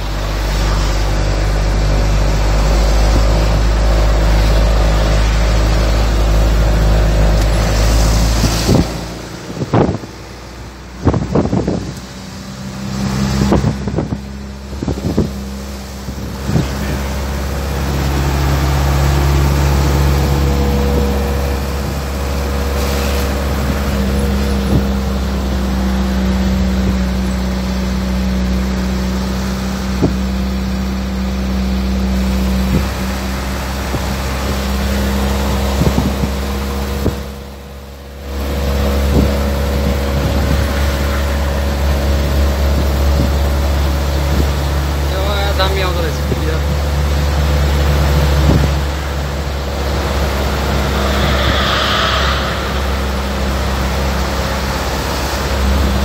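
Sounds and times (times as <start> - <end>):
car rumble from inside cabin: 0.0 - 51.5.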